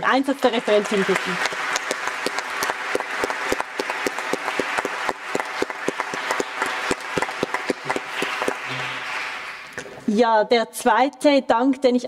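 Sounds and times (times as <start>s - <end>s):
audience applauding: 0.2s - 10.1s.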